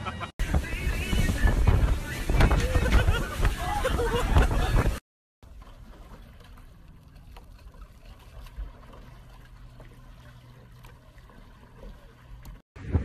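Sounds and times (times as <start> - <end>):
water lapping and trickling: 0.4 - 12.7.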